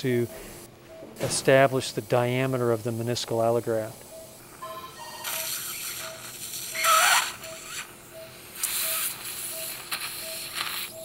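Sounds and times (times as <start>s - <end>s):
patient monitor beeping: 0.0s - 1.8s, 2.4s - 11.0s
bursts of hissing noise: 0.0s - 4.1s, 5.2s - 11.0s.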